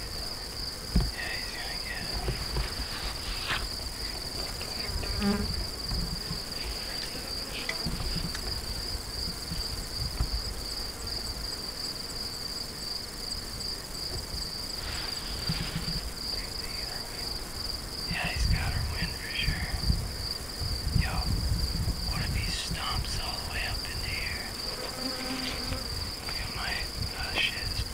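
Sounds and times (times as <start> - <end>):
crickets chirping chorus: 0.0 - 27.9
insect fast ticking: 0.0 - 27.9.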